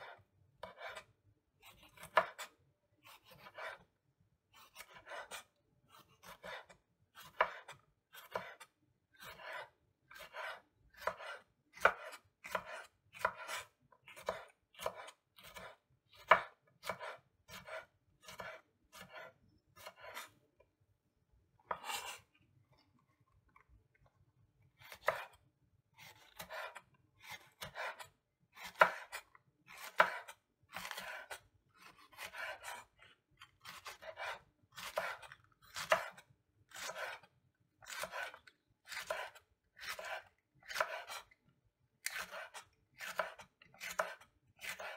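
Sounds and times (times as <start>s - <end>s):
knife chopping on wooden board: 0.0s - 3.9s, 4.5s - 20.4s, 21.7s - 22.3s, 24.8s - 25.4s, 26.0s - 41.4s, 42.0s - 44.9s.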